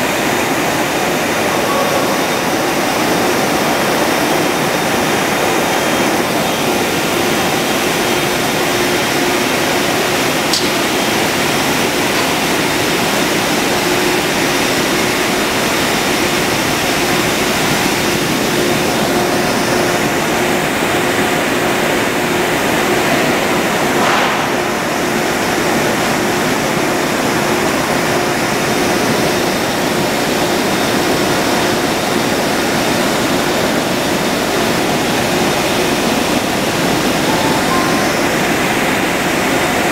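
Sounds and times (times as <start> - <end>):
machine running loudly: 0.0 - 39.9.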